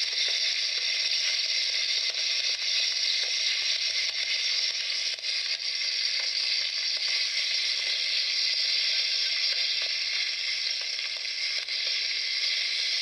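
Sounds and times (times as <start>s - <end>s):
campfire crackling and hissing: 0.0s - 13.0s.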